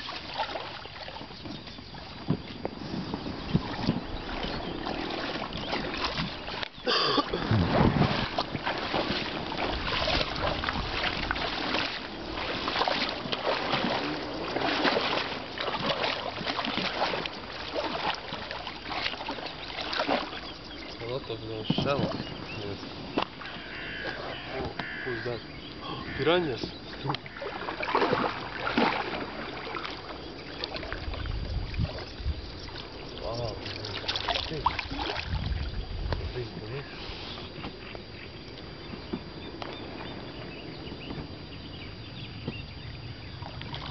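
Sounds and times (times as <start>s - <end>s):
water splashing around boat: 0.0s - 43.9s.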